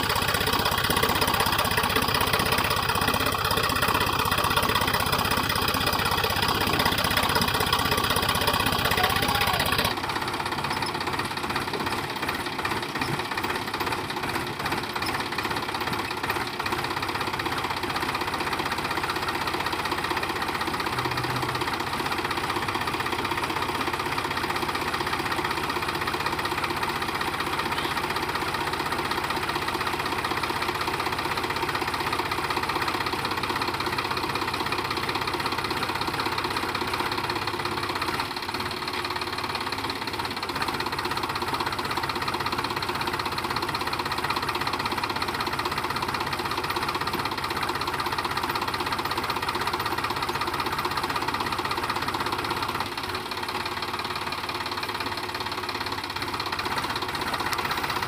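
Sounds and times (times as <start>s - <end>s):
tractor diesel engine knocking: 0.0s - 58.0s.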